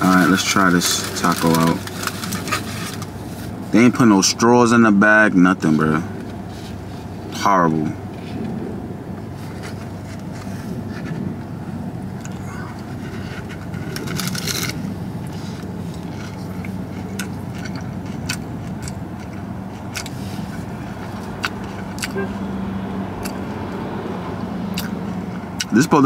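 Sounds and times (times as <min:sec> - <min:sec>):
crunchy taco being chewed: 0:00.0 - 0:03.6, 0:08.1 - 0:25.8
low hum inside car: 0:00.0 - 0:26.0.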